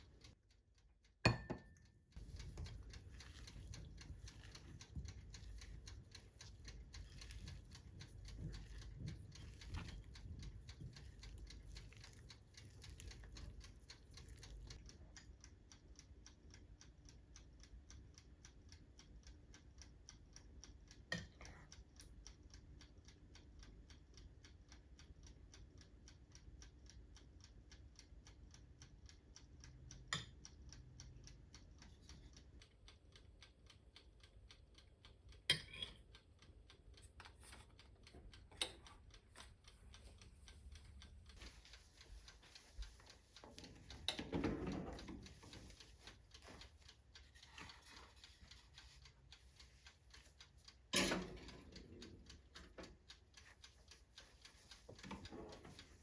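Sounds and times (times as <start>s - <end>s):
faint steady ticking: 0.0s - 56.0s.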